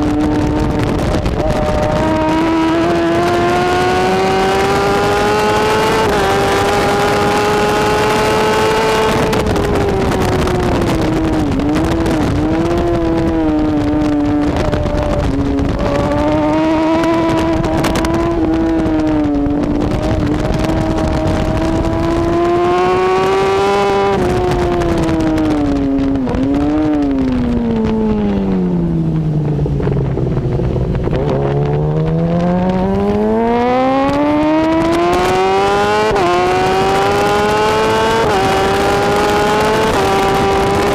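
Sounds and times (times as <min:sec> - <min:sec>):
motorcycle engine racing: 0:00.0 - 0:40.9.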